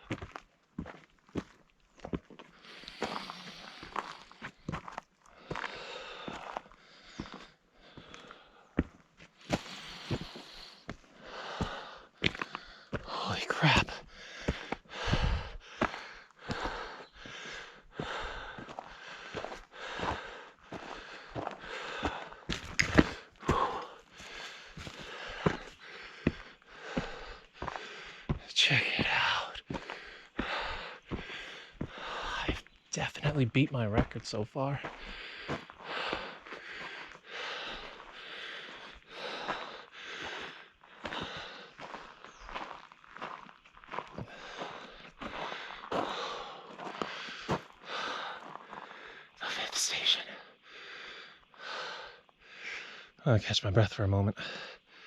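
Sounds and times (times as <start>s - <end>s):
person breathing hard: 2.5s - 32.7s, 34.8s - 42.7s, 44.2s - 53.2s, 54.4s - 55.0s.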